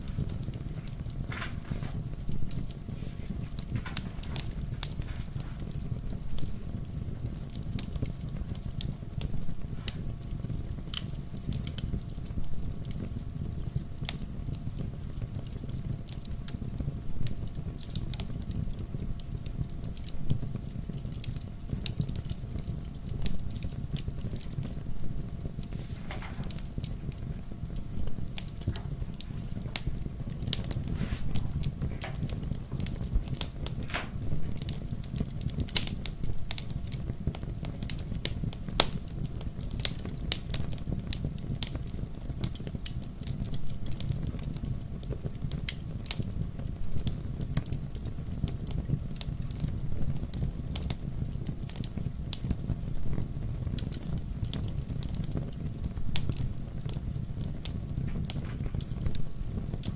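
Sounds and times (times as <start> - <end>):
low rumble of flames: 0.0 - 59.9
sharp fire snaps: 0.0 - 59.9
wood fire crackling and popping: 0.0 - 59.9.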